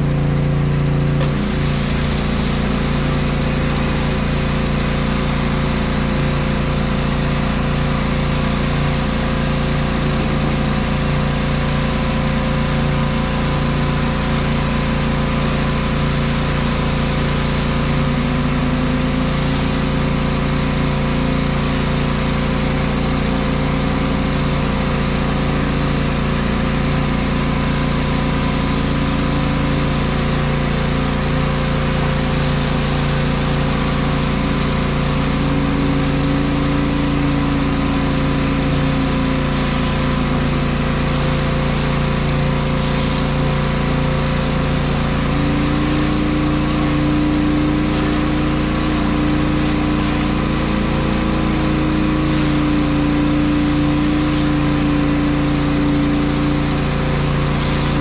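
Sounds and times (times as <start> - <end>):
pressure washer engine running: 0.0 - 58.0
water jet hissing on concrete: 0.0 - 58.0.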